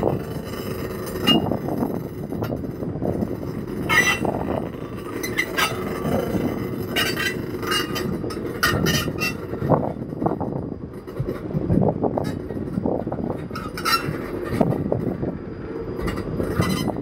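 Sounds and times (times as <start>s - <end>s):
train rumbling over track: 0.0s - 17.0s
wheel squeals: 0.0s - 17.0s.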